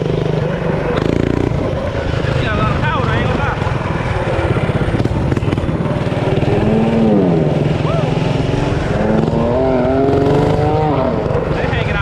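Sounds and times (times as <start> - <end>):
minibike engine revving: 0.0 - 12.0.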